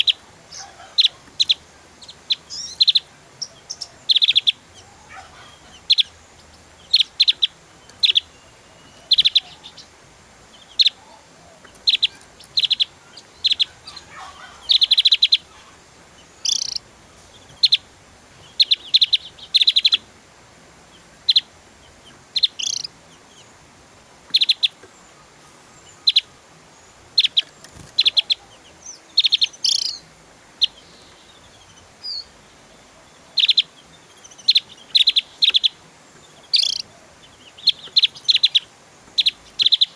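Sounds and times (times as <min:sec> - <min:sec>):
bird chattering song: 0:00.0 - 0:20.2, 0:20.8 - 0:39.9.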